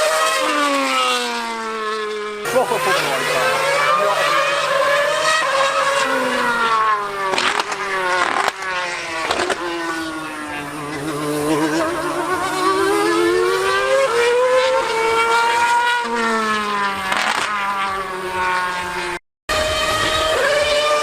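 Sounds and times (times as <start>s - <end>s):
high-revving racing engine: 0.0s - 21.0s.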